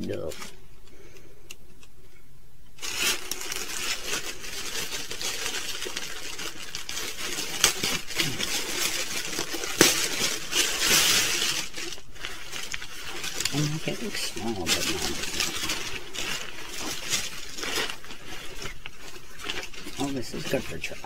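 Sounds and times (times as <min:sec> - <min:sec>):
plastic mailer bag crinkling: 0:00.0 - 0:00.7, 0:02.8 - 0:21.0.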